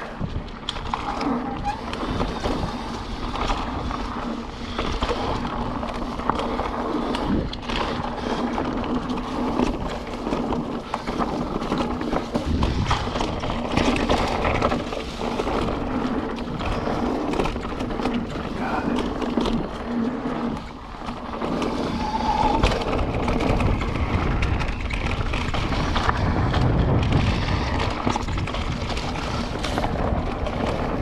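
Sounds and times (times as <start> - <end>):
bike rattling and knocking: 0.0 - 31.0
bike tyres rolling on dirt: 0.0 - 31.0
wind noise on microphone: 0.0 - 31.0.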